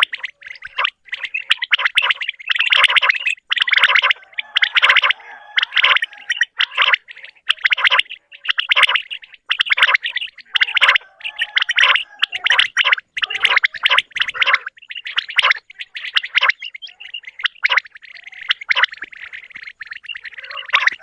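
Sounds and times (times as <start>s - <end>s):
quail calling: 0.0s - 21.0s.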